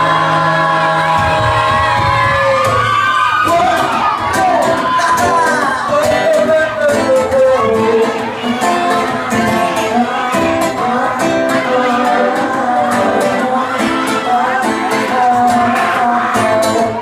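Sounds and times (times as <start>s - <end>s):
person singing: 0.0s - 17.0s
strummed guitar: 0.0s - 17.0s.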